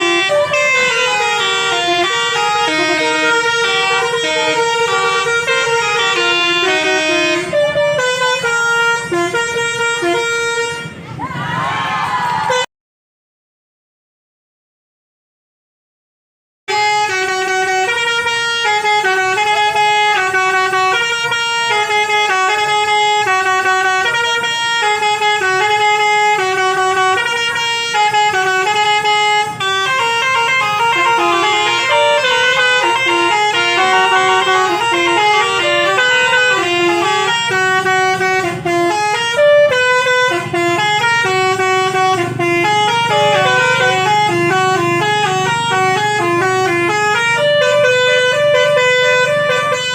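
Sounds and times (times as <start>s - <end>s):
musical bus horns playing a tune: 0.0s - 11.2s, 12.4s - 12.7s, 16.7s - 49.9s.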